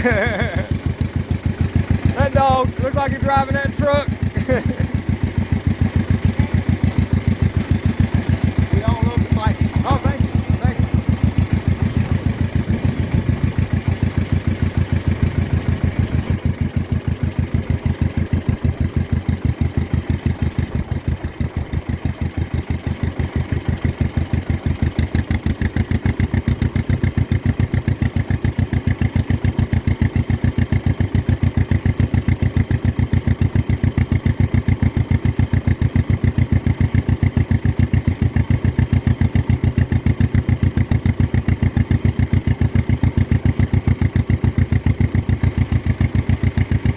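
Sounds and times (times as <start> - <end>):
tractor engine exhaust popping: 0.0 - 46.9.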